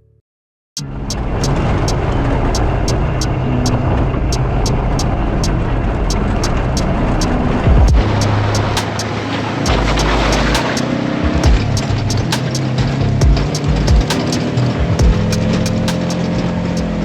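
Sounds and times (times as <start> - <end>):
utility vehicle engine rumbling: 0.8 - 17.0
sharp regular ticking: 1.1 - 17.0.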